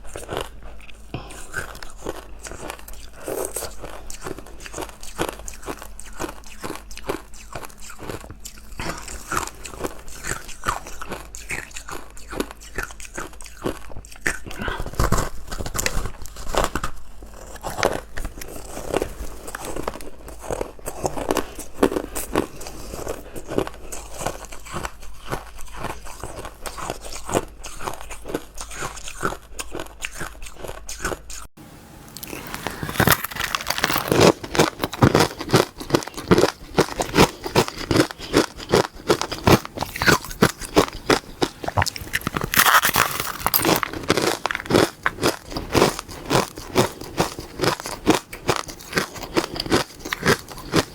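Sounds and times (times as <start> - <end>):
crunching ice being chewed: 0.0 - 31.5, 32.2 - 50.9.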